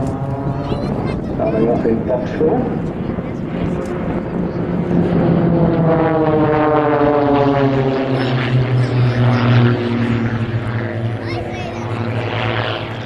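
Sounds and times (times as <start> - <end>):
propeller planes passing overhead: 0.0 - 13.0.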